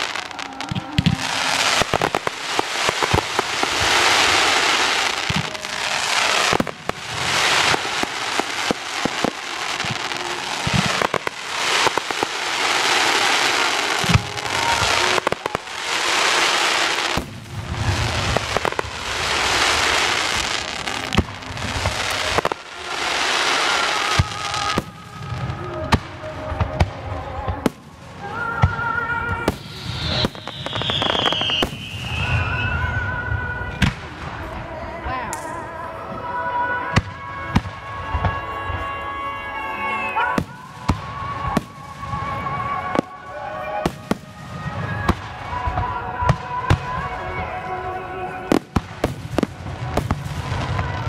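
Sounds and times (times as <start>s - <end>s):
fireworks whistling: 0.0s - 34.6s, 35.3s - 51.0s
fireworks bangs and booms: 0.0s - 35.1s, 36.8s - 51.0s
fireworks crackling: 0.0s - 51.0s.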